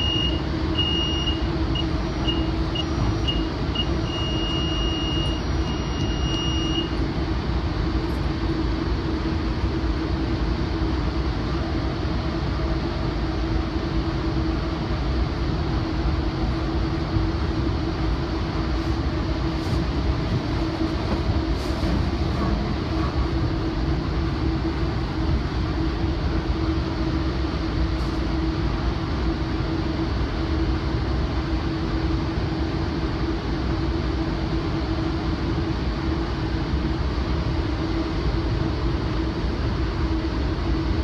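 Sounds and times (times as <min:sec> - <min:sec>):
diesel locomotive humming: 0:00.0 - 0:41.0
train rumbling: 0:00.0 - 0:41.0.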